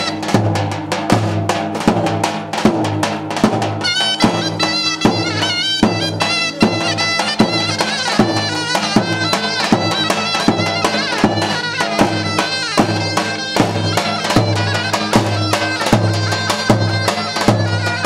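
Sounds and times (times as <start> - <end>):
shrill reed pipe melody: 0.0 - 0.8, 3.6 - 18.0
steady drum beat: 0.0 - 18.0.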